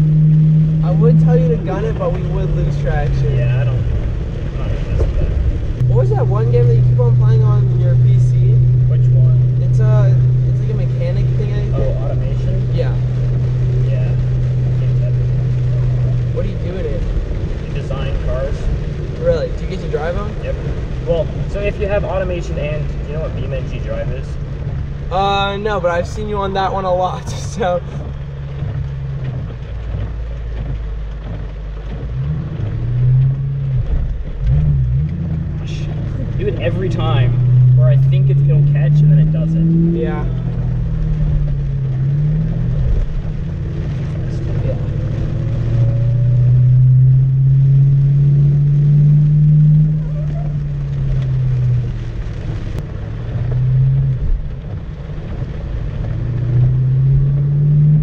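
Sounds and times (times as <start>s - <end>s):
car engine revving: 0.0s - 58.0s
rain pattering on car: 0.0s - 58.0s.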